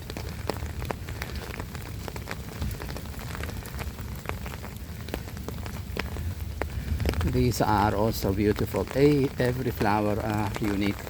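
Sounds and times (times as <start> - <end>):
raindrops ticking: 0.0 - 11.0
steady low rumble: 0.0 - 11.0.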